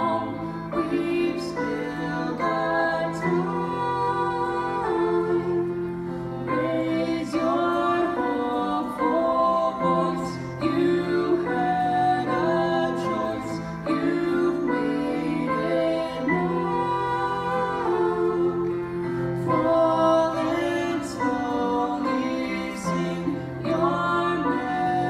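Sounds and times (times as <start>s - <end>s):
piano: 0.0s - 25.0s
voices singing together: 0.0s - 25.0s.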